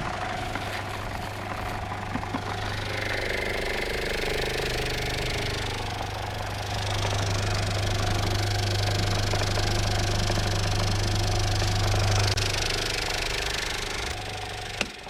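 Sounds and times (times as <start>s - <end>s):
electric motor humming and rattling: 0.0s - 15.0s.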